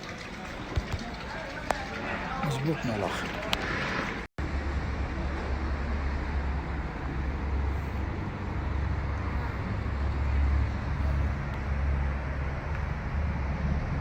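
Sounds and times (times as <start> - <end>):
vehicle rumble and road noise: 0.0 - 14.0.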